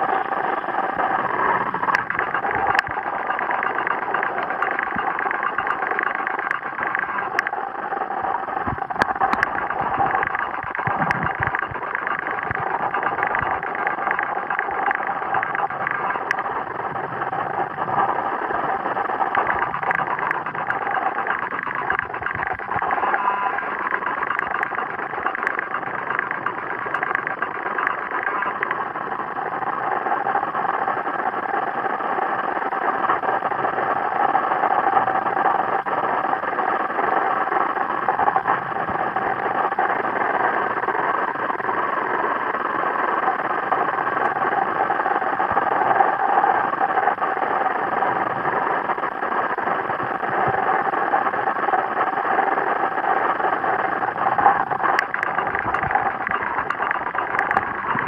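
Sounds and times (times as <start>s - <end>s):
faint clicks: 0.0s - 58.0s
muffled underwater noise: 0.0s - 58.0s.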